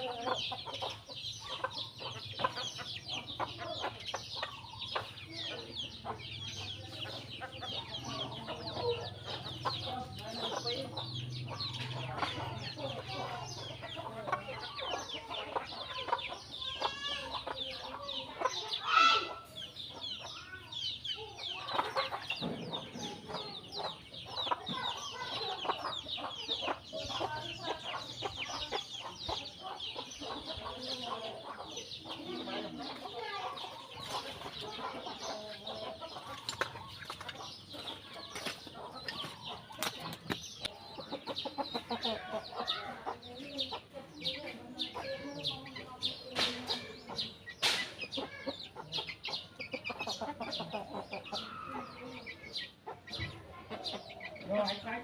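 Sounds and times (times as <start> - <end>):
chickens clucking: 0.0 - 55.0
sparrows chirping: 0.0 - 55.0.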